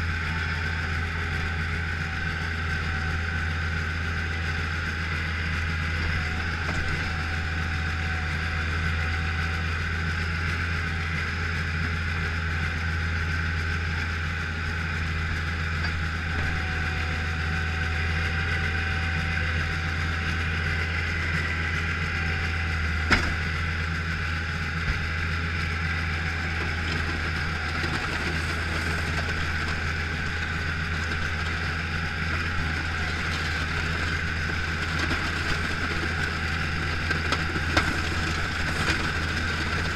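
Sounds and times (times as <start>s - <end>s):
loader engine running: 0.0s - 39.9s.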